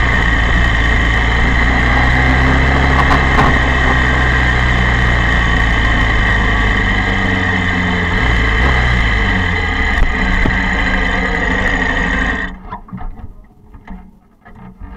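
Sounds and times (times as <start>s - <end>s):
motorcycle engine at low revs: 0.0s - 14.9s.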